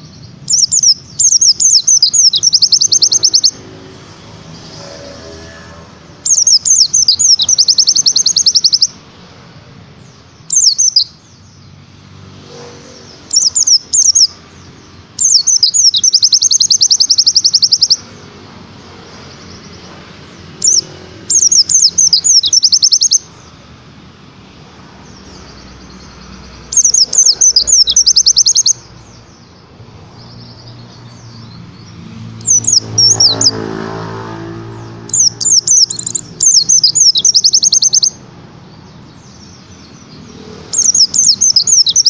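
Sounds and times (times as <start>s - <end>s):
bird singing rapid falling chirps: 0.0s - 9.0s, 10.0s - 11.8s, 13.0s - 18.3s, 19.2s - 23.6s, 24.8s - 42.0s.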